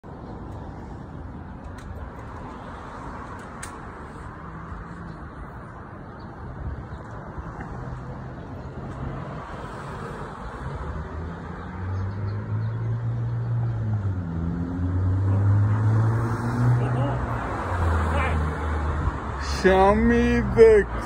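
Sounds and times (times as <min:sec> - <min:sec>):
road traffic wash: 0:00.0 - 0:21.0.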